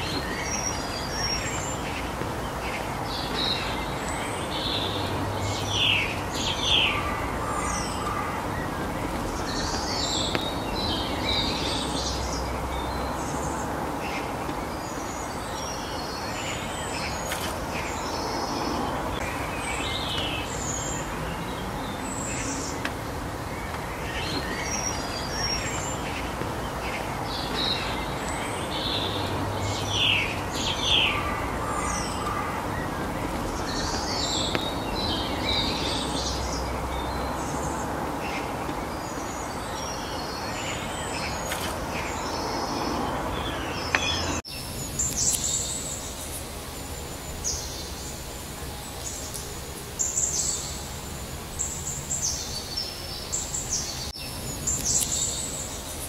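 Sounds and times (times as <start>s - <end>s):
songbirds chirping: 0.0s - 56.0s
steady outdoor background rush: 0.0s - 56.0s.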